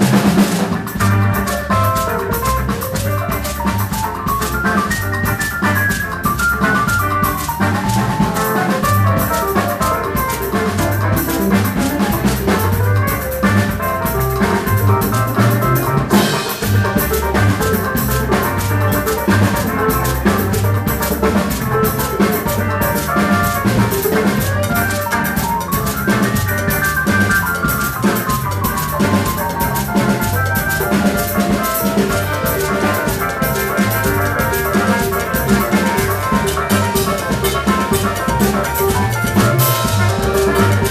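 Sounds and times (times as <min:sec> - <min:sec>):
bass keyboards and guitar: 0:00.0 - 0:40.9
drum kit and hand percussion: 0:00.0 - 0:40.9.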